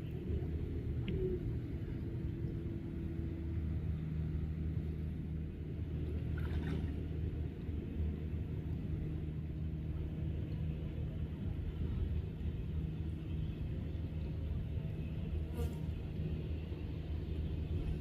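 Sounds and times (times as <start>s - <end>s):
low humming drone: 0.0s - 18.0s
rumble: 0.0s - 18.0s.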